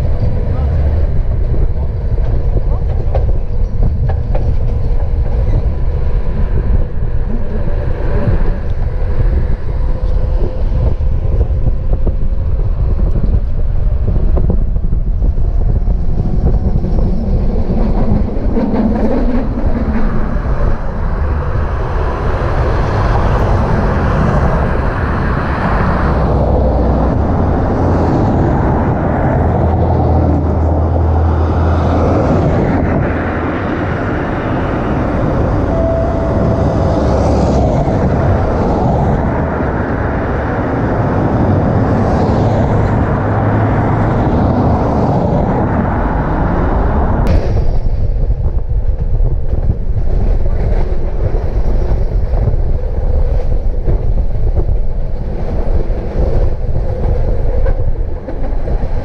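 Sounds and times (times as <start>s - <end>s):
tram wheels rumbling on rail: 0.0s - 59.0s.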